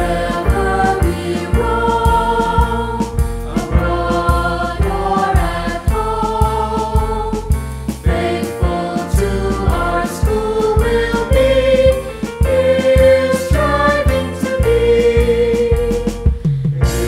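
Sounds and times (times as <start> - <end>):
choir singing a hymn: 0.0 - 17.0
instrumental accompaniment: 0.0 - 17.0.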